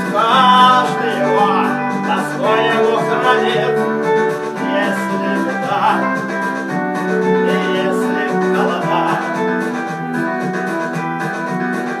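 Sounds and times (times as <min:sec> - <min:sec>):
guitar accompaniment: 0:00.0 - 0:12.0
sliding melody line: 0:00.0 - 0:12.0.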